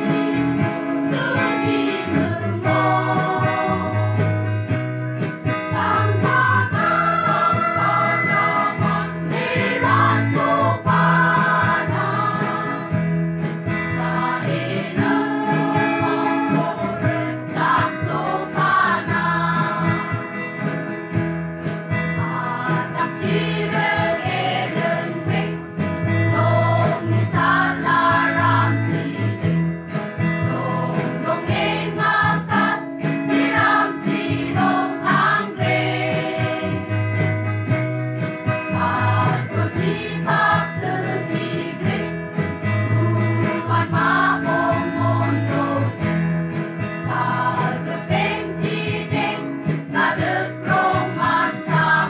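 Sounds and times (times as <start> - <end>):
choir singing in harmony: 0.0 - 4.2, 5.5 - 20.7, 22.2 - 37.1, 38.6 - 52.0
acoustic guitar: 0.0 - 52.0.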